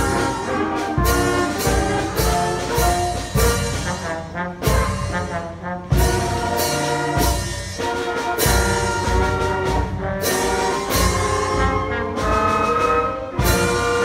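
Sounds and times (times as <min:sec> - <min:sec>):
strong drum beat: 0:00.0 - 0:14.0
trombones: 0:00.0 - 0:14.0
trumpets: 0:00.0 - 0:14.0
woodwinds: 0:00.0 - 0:14.0.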